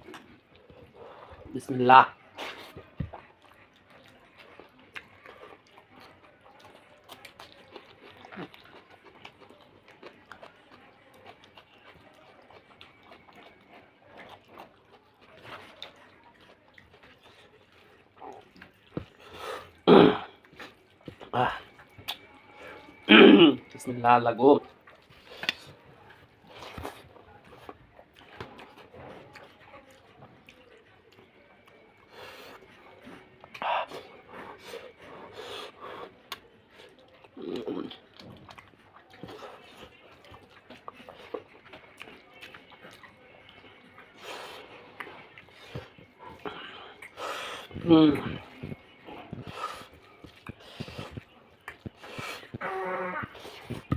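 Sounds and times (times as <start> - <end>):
person chewing food: 0.0 - 53.9
wet eating squelching: 0.0 - 53.9.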